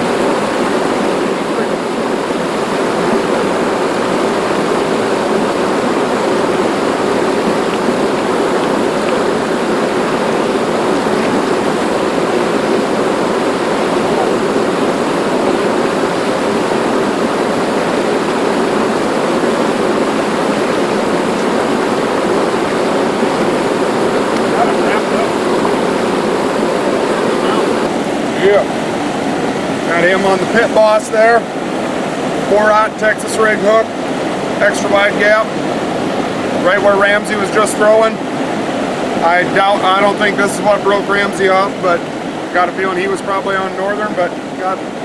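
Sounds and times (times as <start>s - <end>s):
water rushing over a dam: 0.0s - 45.0s.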